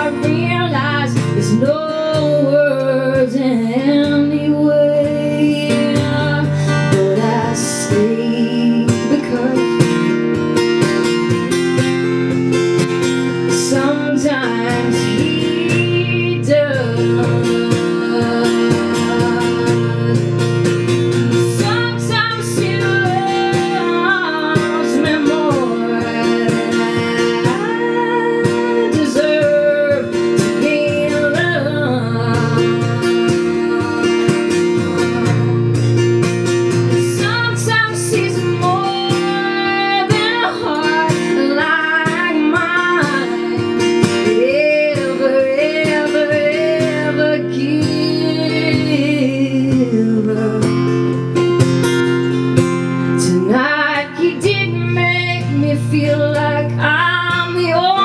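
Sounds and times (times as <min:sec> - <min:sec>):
acoustic guitar strummed: 0:00.0 - 0:58.0
sliding guitar melody: 0:00.0 - 0:58.0.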